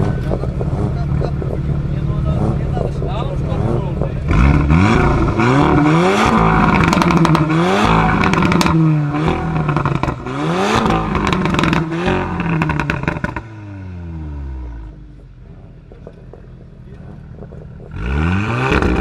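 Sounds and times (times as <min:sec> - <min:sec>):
car engine revving: 0:00.0 - 0:19.0
exhaust crackles and pops: 0:00.0 - 0:19.0.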